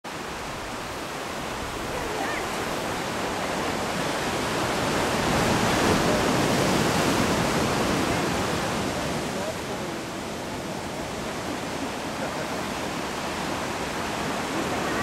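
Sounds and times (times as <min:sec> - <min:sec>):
ocean surf breaking on rocks: 0:00.1 - 0:15.0.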